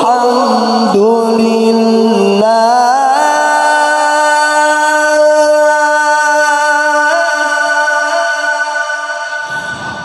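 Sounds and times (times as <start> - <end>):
man chanting through microphone: 0.0 - 10.0.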